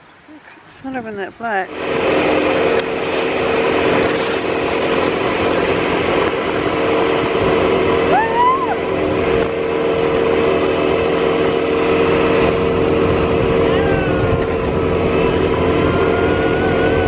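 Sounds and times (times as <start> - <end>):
wind rushing over microphone: 0.7 - 17.0
quad bike engine running: 1.4 - 17.0.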